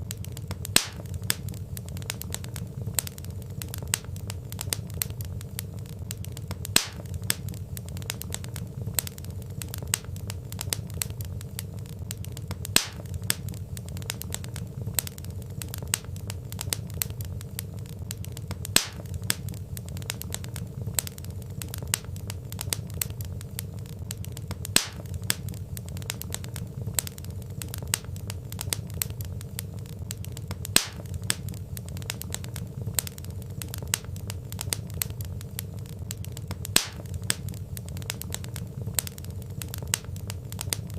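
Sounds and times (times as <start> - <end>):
low rumble of burning logs: 0.0 - 40.9
wood fire crackling: 0.0 - 40.9.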